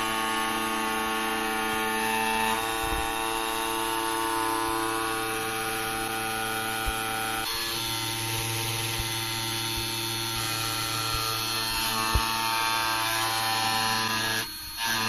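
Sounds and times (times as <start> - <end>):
grinder motor hum: 0.0 - 15.0.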